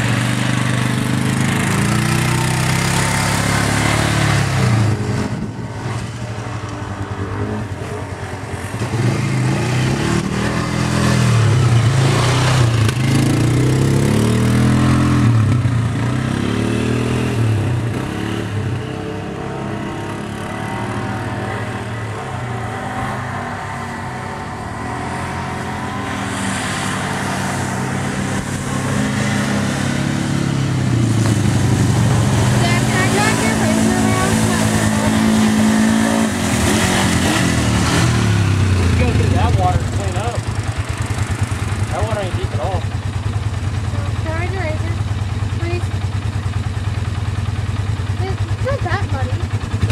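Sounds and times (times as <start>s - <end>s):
atv engine revving: 0.0s - 49.9s.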